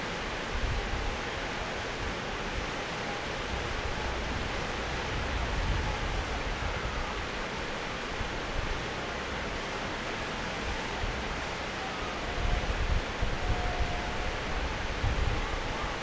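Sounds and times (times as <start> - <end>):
whitewater river rapids: 0.0 - 16.0
wind rumble on microphone: 0.2 - 2.8, 3.4 - 9.4, 10.6 - 16.0.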